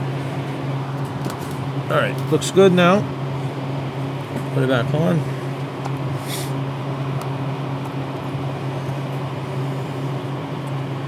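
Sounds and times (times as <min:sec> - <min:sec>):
low ventilation hum: 0:00.0 - 0:11.0.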